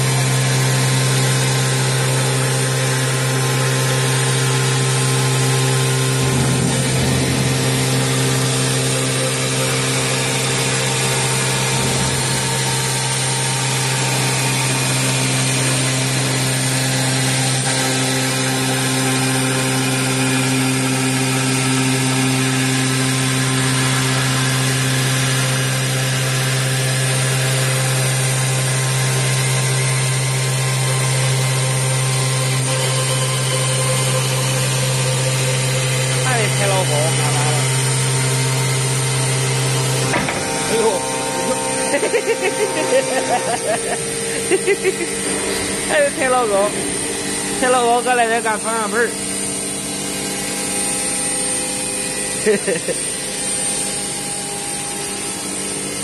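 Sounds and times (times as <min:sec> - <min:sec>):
cnc spindle humming: 0:00.0 - 0:56.0
cutter grinding stone: 0:00.0 - 0:56.0.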